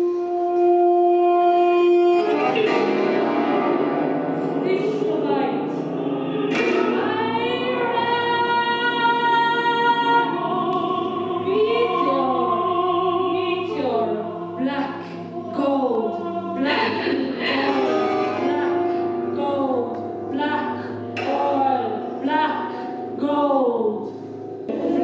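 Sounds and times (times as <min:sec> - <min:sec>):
woman singing operatically: 0:00.0 - 0:03.6, 0:04.4 - 0:24.1, 0:24.7 - 0:25.0
steady low drone: 0:00.0 - 0:25.0.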